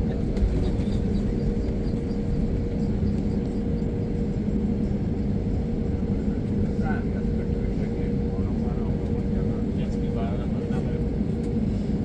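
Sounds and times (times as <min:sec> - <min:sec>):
airplane engines droning: 0:00.0 - 0:12.0.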